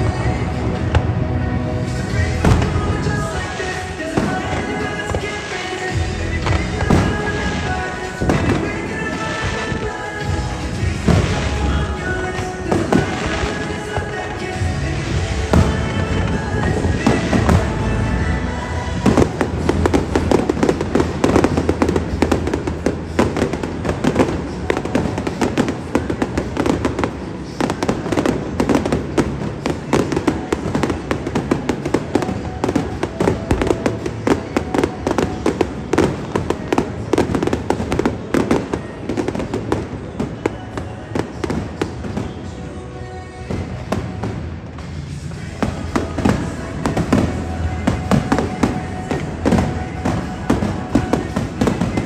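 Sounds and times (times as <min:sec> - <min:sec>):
fireworks crackling and popping: 0:00.0 - 0:52.0.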